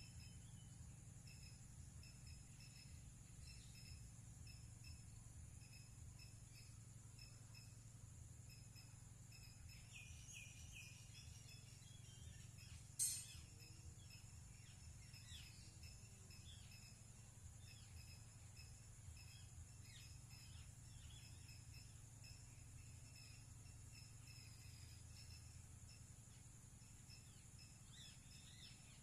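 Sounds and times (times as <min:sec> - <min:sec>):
small bird chirps: 0:00.0 - 0:07.8, 0:08.6 - 0:29.0
steady low hum: 0:00.0 - 0:29.0.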